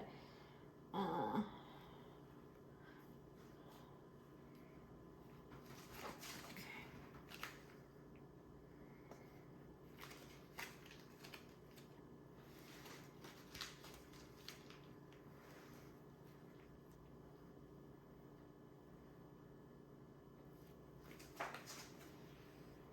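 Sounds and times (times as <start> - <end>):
faint room hum: 0.0 - 22.9.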